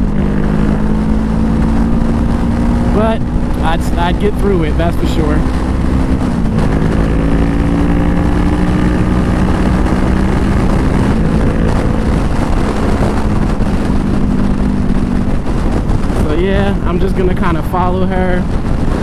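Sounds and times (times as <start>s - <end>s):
motorcycle engine running: 0.0s - 19.0s
road rumble: 0.0s - 19.0s
wind: 0.0s - 19.0s.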